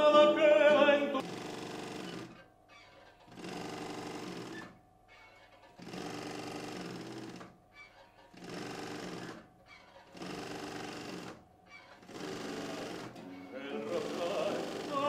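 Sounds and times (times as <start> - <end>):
treadle sewing machine clatter: 1.2 - 15.0.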